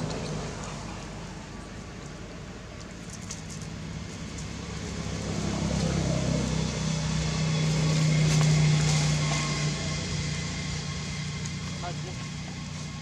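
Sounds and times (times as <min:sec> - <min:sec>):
distant vehicle engine hum: 0:00.0 - 0:13.0.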